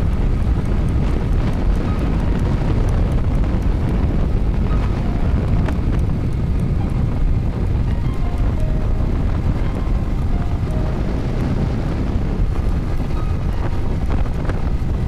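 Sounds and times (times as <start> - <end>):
motorcycle engine rumble: 0.0 - 15.0
road noise: 0.0 - 15.0
wind buffeting microphone: 0.0 - 15.0.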